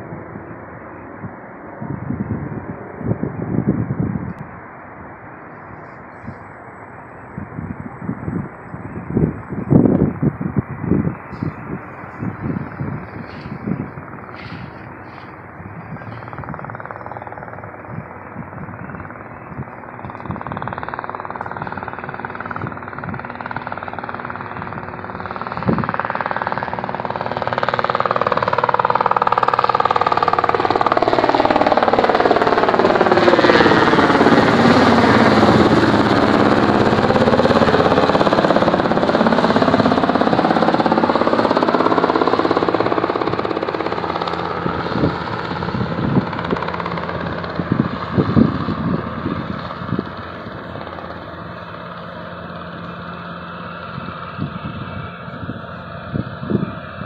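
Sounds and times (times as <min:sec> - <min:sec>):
helicopter flying overhead: 0:00.0 - 0:57.0.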